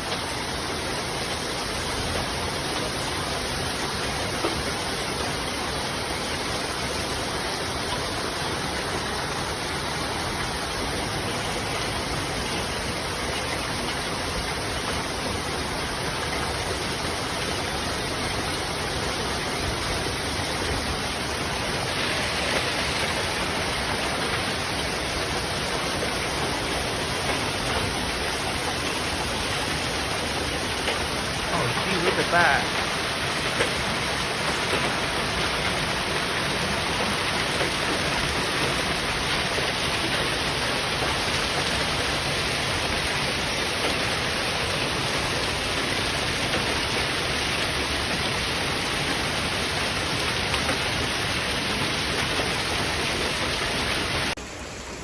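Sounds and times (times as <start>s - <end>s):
hail and rain pattering: 0.0s - 54.4s.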